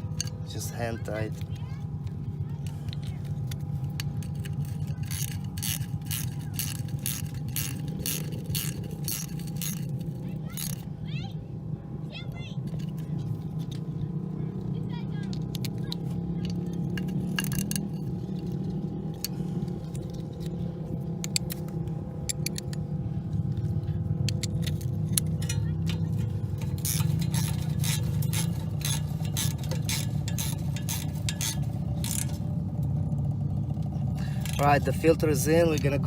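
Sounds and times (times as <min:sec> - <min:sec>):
metal tools clinking: 0:00.0 - 0:10.9, 0:15.2 - 0:32.8, 0:33.6 - 0:36.0
low hum: 0:00.0 - 0:36.0.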